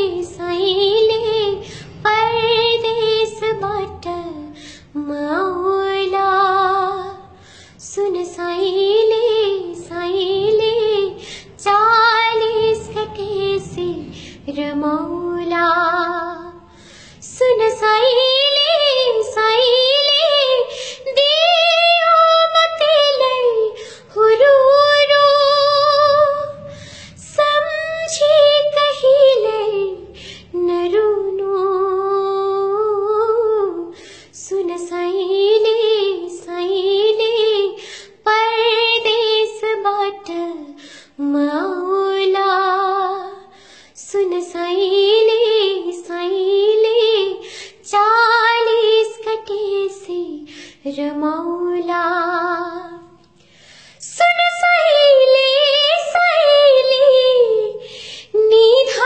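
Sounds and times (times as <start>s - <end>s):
woman singing unaccompanied: 0.0s - 53.2s, 54.0s - 59.0s.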